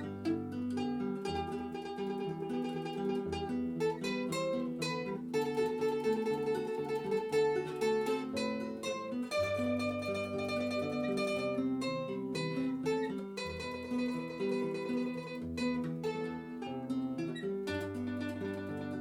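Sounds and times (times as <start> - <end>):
plucked string instrumental music: 0.0 - 19.0.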